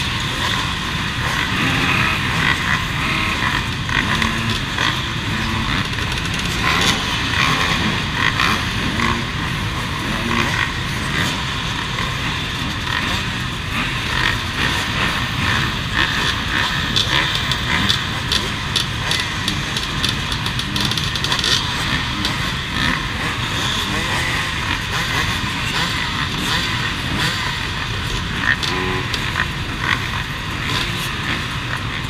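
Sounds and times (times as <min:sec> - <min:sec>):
many motorcycle engines running: 0:00.0 - 0:32.0.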